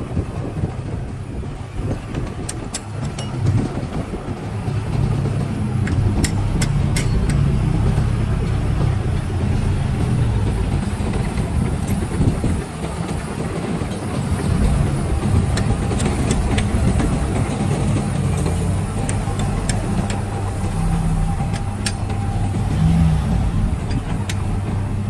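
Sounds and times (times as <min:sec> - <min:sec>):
heavy diesel machinery running: 0:00.0 - 0:25.0.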